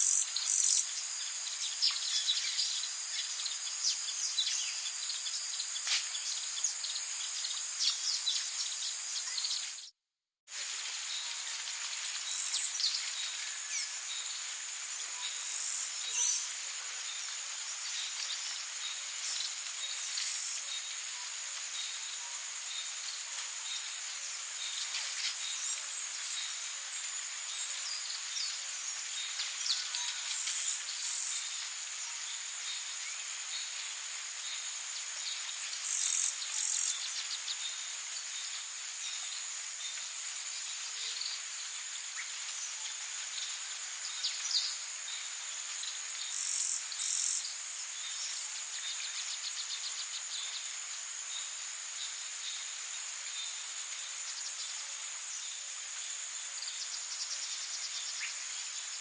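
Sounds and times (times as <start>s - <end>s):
insects trilling: 0.0s - 9.8s, 11.0s - 59.0s
steady hiss: 0.0s - 9.9s, 10.5s - 59.0s.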